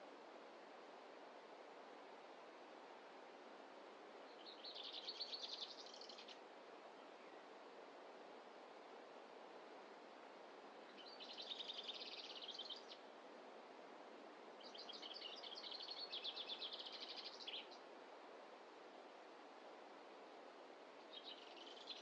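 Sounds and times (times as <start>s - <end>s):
faint background hiss: 0.0s - 22.0s.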